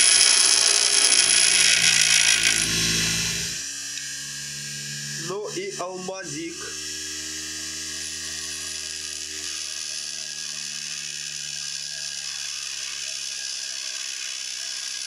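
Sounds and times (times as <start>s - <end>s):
tool grinding hiss: 0.0s - 6.6s, 7.2s - 15.0s
grinder motor hum: 0.0s - 15.0s.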